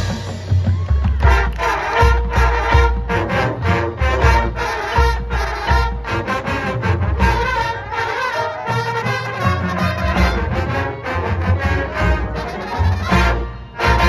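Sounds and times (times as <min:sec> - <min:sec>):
drums: 0:00.0 - 0:07.9, 0:08.7 - 0:14.0
marching band playing: 0:00.0 - 0:14.0
brass section: 0:01.2 - 0:14.0.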